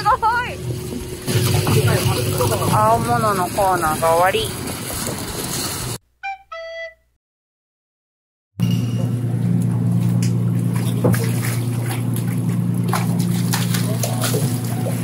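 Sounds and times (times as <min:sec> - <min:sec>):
boat engine humming: 0:00.0 - 0:06.0, 0:08.6 - 0:15.0
water splashing and sloshing: 0:00.0 - 0:06.0, 0:08.9 - 0:15.0.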